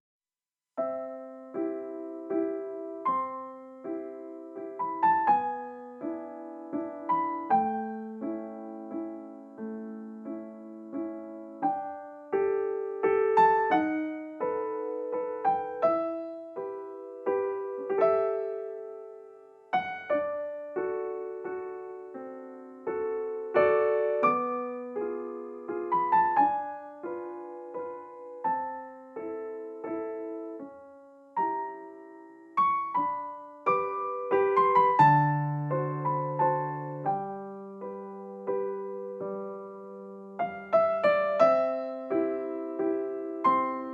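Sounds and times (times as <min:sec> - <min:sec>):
slow solo piano: 0:00.7 - 0:43.9.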